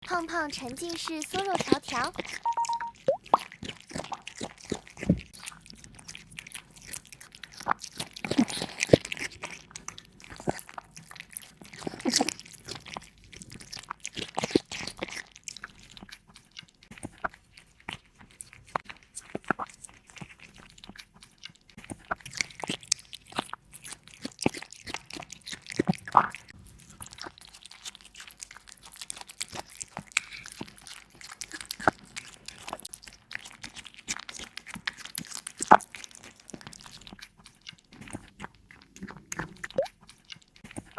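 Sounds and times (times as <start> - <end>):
cat crunching and chewing: 0.0 - 40.9.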